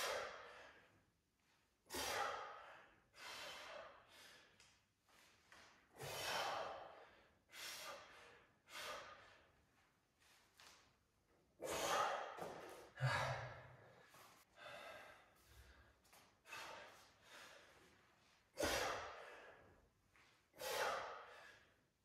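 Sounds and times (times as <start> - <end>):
man breathing hard: 0.0 - 4.8, 5.9 - 9.8, 11.6 - 22.0.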